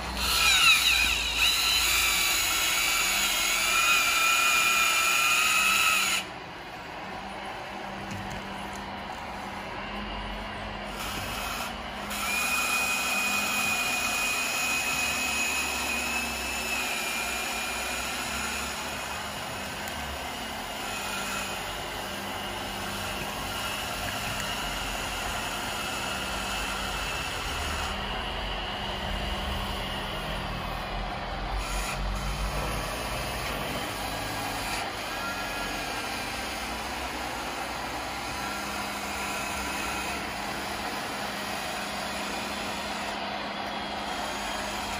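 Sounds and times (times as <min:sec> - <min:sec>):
constant mechanical noise: 0:00.0 - 0:44.9
electric motor whining: 0:00.0 - 0:44.9.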